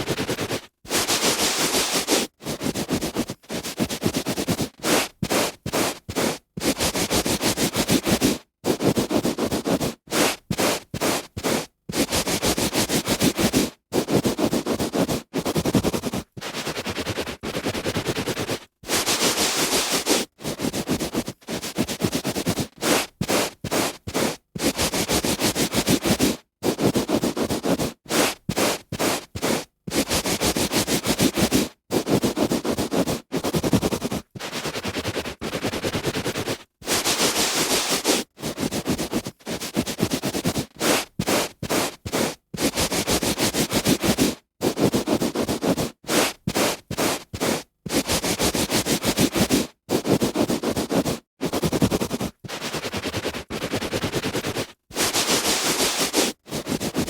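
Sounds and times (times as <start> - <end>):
hand rubbing on carpet: 0.0 - 57.0.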